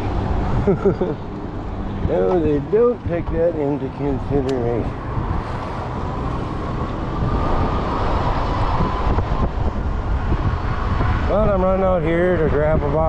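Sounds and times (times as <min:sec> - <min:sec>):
e-bike road noise: 0:00.0 - 0:13.0
wind rumbling over microphone: 0:00.0 - 0:13.0.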